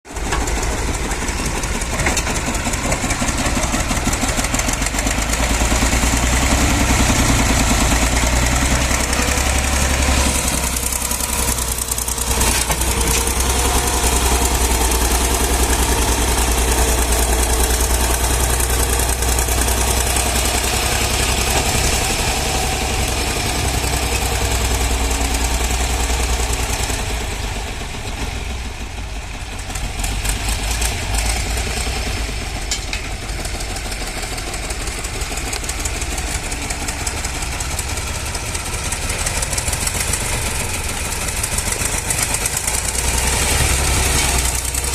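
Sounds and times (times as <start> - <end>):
tractor engine droning: 0.1 - 44.9.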